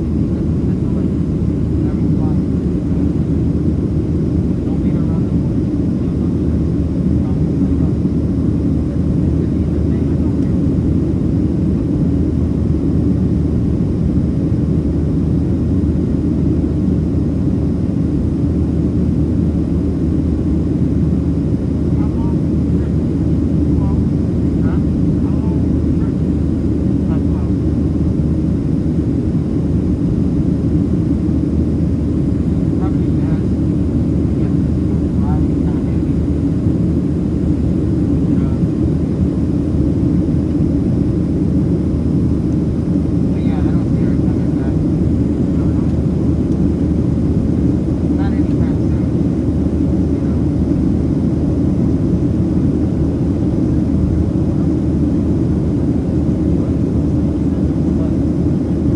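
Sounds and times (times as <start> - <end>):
jet engines roaring in cabin: 0.0 - 58.9.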